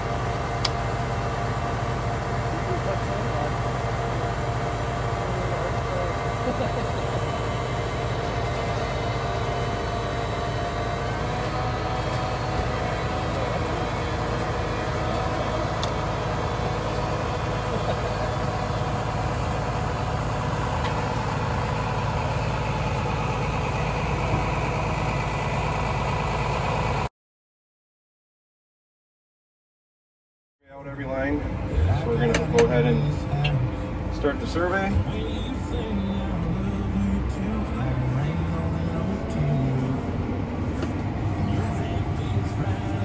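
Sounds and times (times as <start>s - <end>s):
tractor engine running under load: 0.0s - 27.1s, 30.9s - 43.0s.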